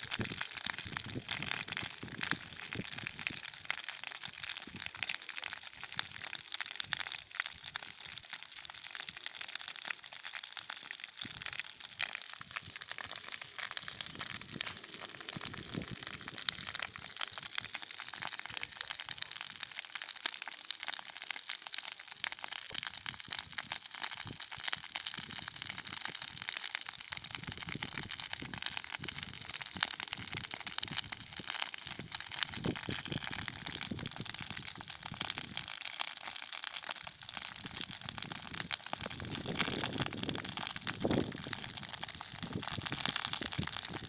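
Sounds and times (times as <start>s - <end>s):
dry grass crackling in fire: 0.0s - 44.0s.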